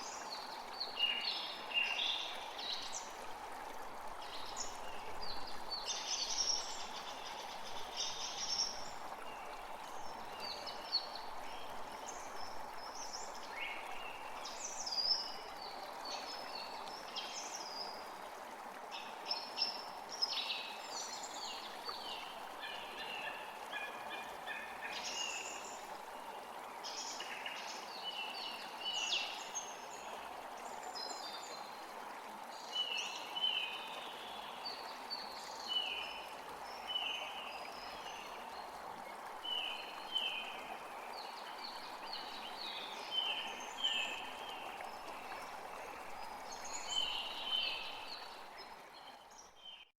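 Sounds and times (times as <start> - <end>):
creek flowing: 0.0 - 49.9.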